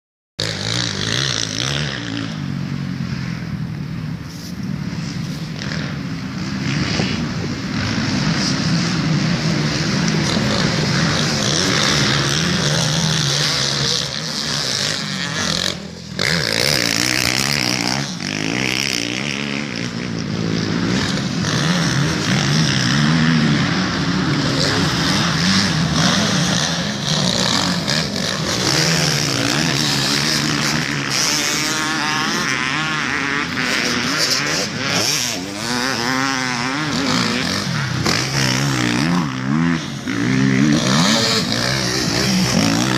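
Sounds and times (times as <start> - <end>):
motorcycle engines revving: 0.4 - 42.9.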